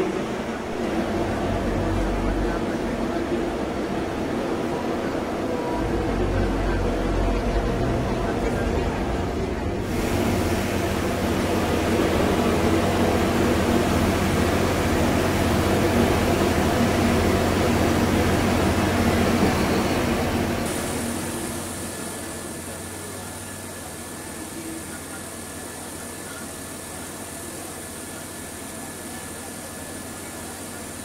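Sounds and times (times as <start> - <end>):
engine-like drone: 0.0 - 31.0.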